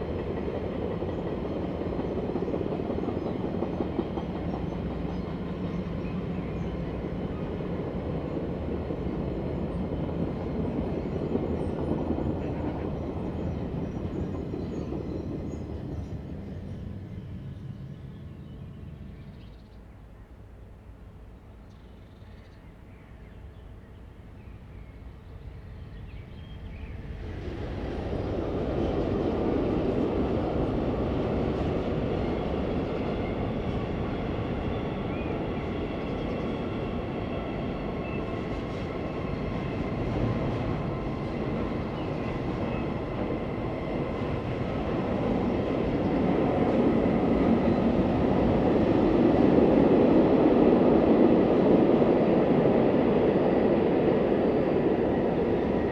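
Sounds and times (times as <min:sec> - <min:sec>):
electric train rumbling by: 0:00.0 - 0:21.6, 0:23.7 - 0:55.9.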